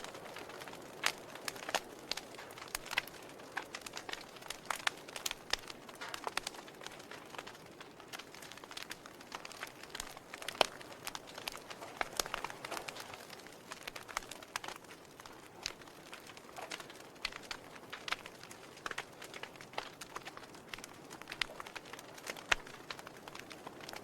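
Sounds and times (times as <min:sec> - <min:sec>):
logs crackling in a fireplace: 0:00.0 - 0:24.0.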